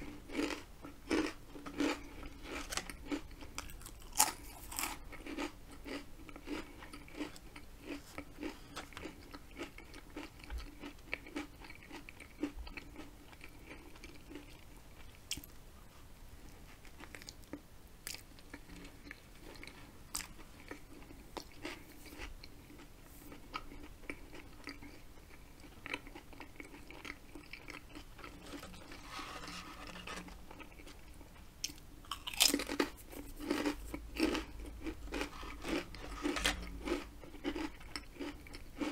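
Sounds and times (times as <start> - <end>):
chewing crunchy food: 0.0 - 15.6, 16.4 - 38.9.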